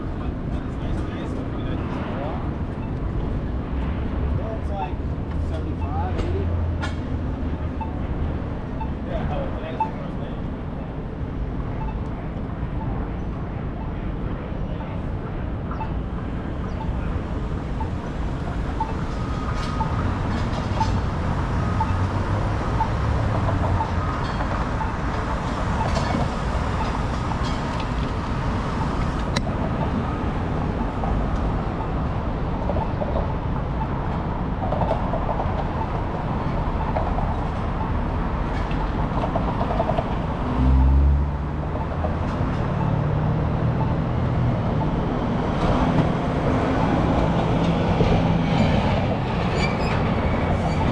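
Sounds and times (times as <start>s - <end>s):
city street traffic: 0.0s - 50.9s
rail vehicle low tones: 0.0s - 50.9s.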